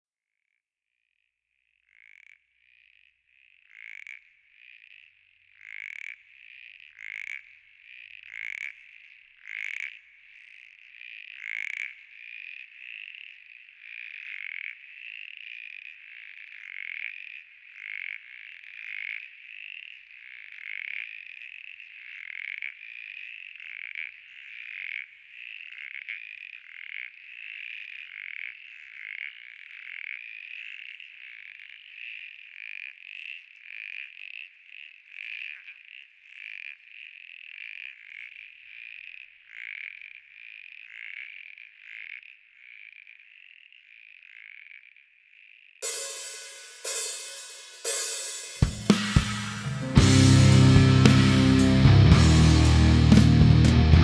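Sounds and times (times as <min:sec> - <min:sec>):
frogs calling: 0:01.6 - 0:51.6.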